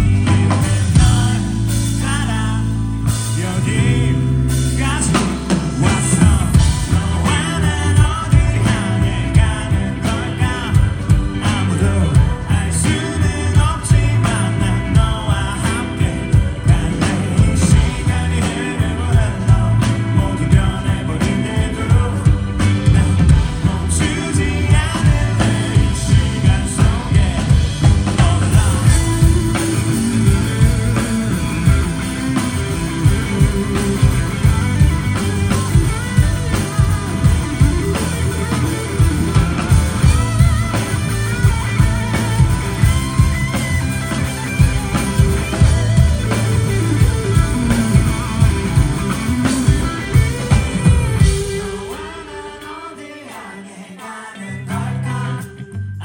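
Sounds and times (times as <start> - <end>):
drums: 0.0 - 56.0
electric guitar: 0.0 - 56.0
person singing lead vocal: 0.0 - 56.0.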